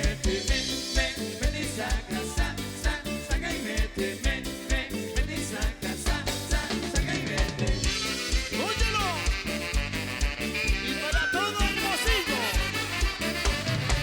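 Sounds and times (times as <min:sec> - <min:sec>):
cumbia band playing: 0:00.0 - 0:14.0
strong bass beat: 0:00.0 - 0:14.0.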